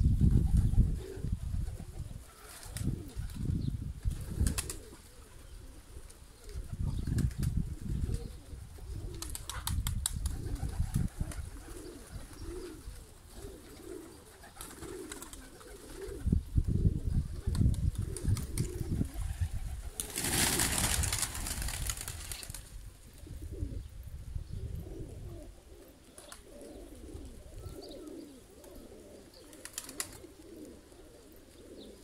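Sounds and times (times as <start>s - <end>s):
pigeons cooing: 0.0s - 32.0s.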